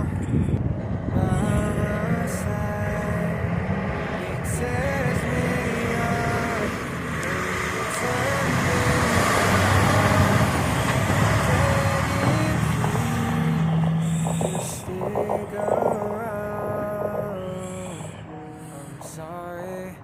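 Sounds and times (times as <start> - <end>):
song with slow sung melody: 0.0 - 20.0
truck passing: 0.0 - 20.0.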